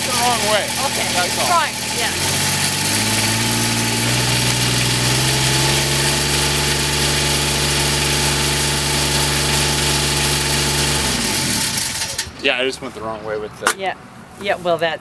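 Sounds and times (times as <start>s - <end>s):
fire engine pump engine revving: 0.0s - 13.7s.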